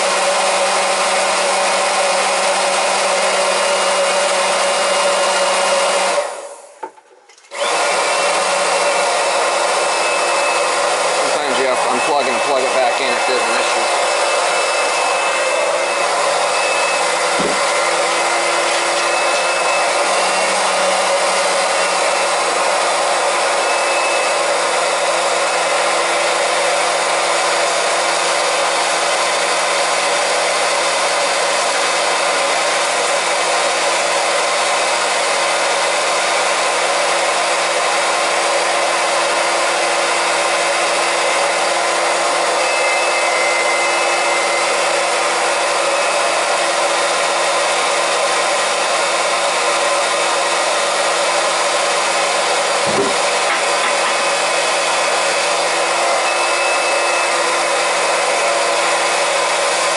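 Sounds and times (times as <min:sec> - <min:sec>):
electric pump running: 0:00.0 - 0:59.9.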